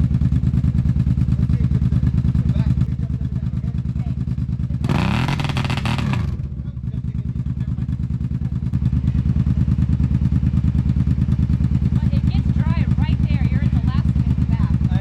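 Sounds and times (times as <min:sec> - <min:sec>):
quad bike engine idling and revving: 0:00.0 - 0:15.0.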